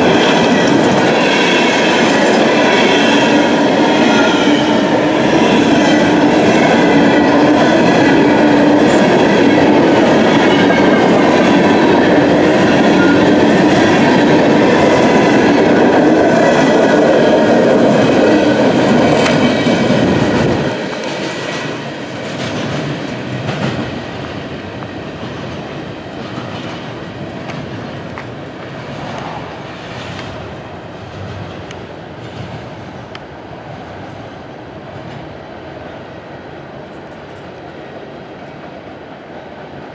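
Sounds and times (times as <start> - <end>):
train wheels ringing on rails: 0.0 - 39.9.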